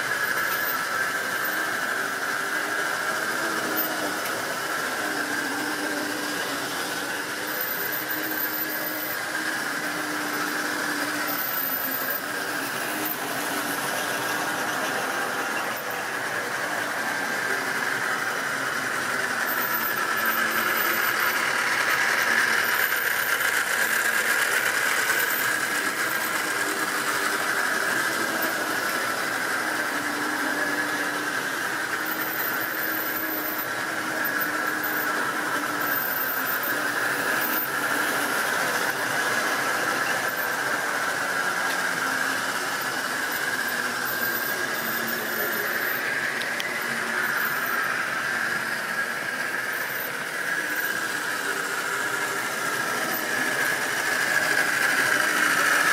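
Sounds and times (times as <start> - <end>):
model train motor whine: 0.0 - 55.9
model train running rumble: 0.0 - 55.9.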